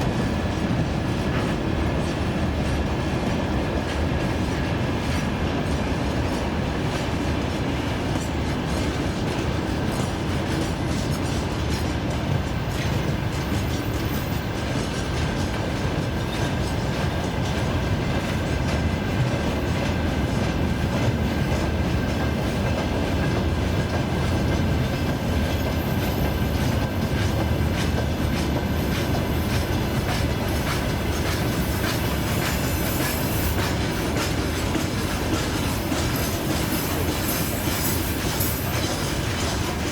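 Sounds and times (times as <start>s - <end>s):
train wheels knocking on rail joints: 0.0s - 39.9s.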